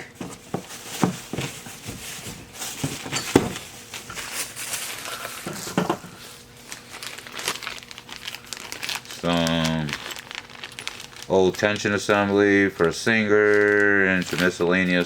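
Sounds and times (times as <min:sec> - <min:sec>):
packing material rustling: 0:00.0 - 0:15.0.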